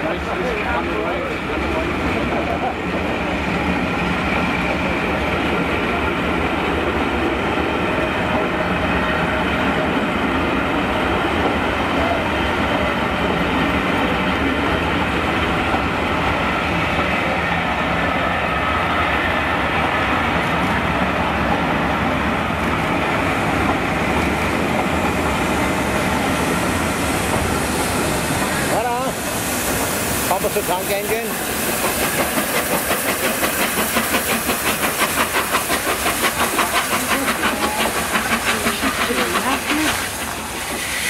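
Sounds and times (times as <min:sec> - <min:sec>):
train wheels running on rails: 0:00.0 - 0:41.0.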